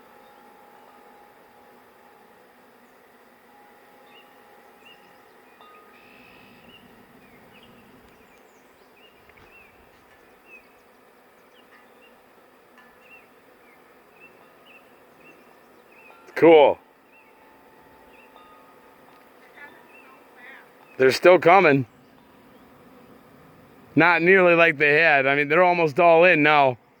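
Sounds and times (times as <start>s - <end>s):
bees buzzing: 0.0s - 27.0s.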